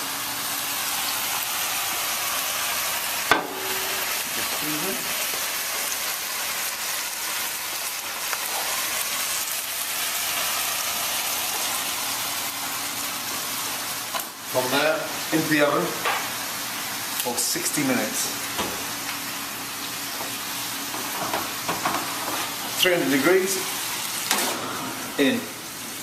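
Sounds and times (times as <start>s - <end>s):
meat sizzling in oil: 0.0s - 26.0s.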